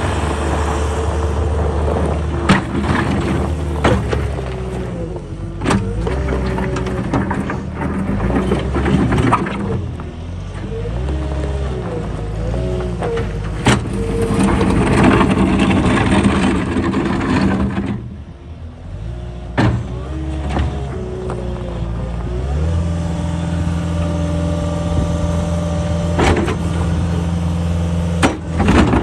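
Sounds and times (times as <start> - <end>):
diesel engine revving: 0.0 - 29.0.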